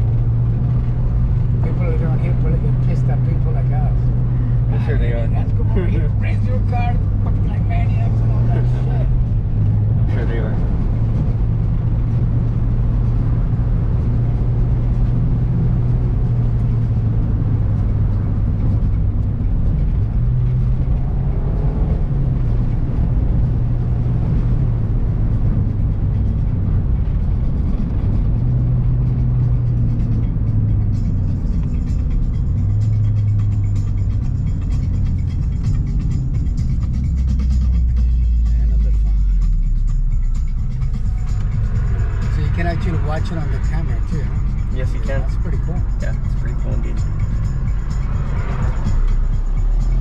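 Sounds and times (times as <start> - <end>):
car engine drone: 0.0 - 50.0
road noise: 0.0 - 50.0.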